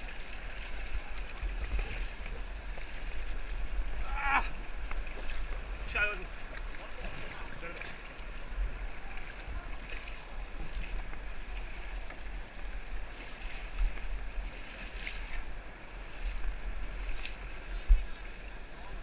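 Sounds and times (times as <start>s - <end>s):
rushing whitewater: 0.0s - 19.0s.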